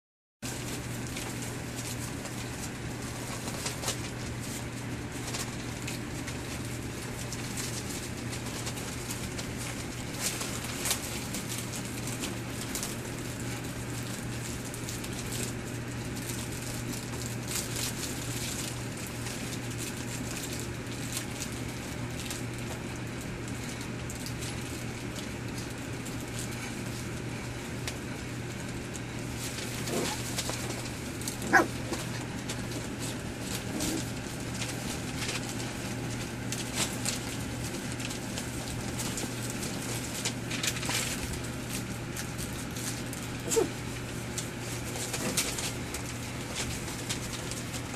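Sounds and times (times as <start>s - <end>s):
steady low hum: 0.4s - 47.9s
paper rustling: 0.5s - 47.9s
puppy paws pattering: 0.5s - 47.9s.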